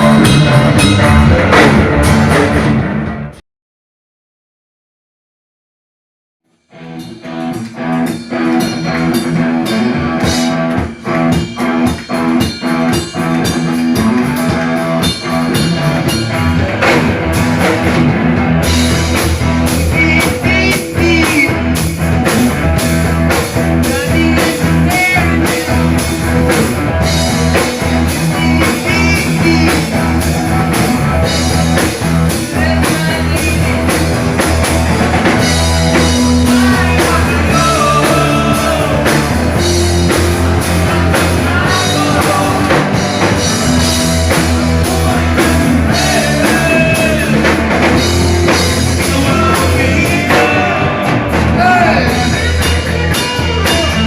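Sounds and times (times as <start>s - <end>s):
drum kit with cymbals: 0.0s - 3.1s, 6.8s - 54.0s
bass guitar: 0.0s - 3.4s, 6.5s - 54.0s
electric guitar: 0.0s - 3.4s, 6.6s - 54.0s.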